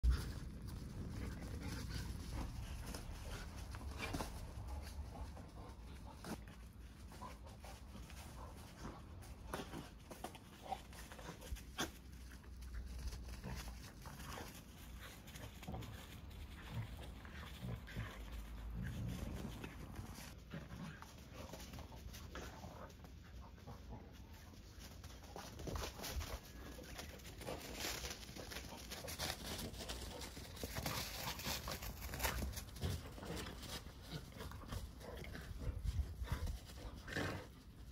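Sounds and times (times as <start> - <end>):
dogs scuffling: 0.0 - 37.9.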